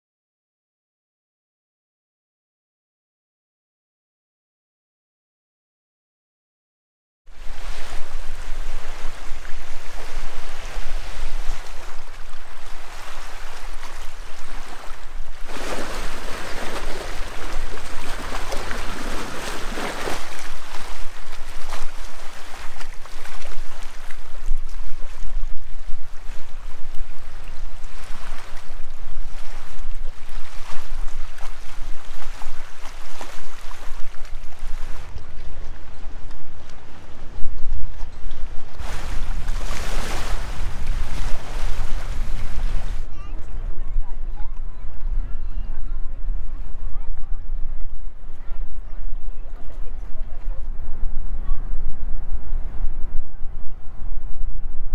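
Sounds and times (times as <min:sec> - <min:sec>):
lake waves lapping at the shore: 0:07.3 - 0:53.2
wind buffeting the microphone: 0:07.3 - 0:54.9.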